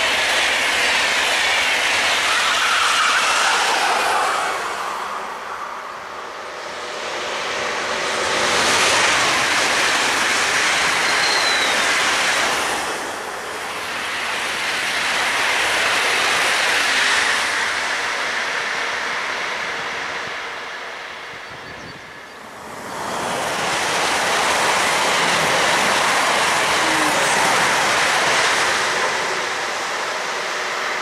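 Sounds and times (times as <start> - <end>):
train wheels rushing on rails: 0.0 - 31.0.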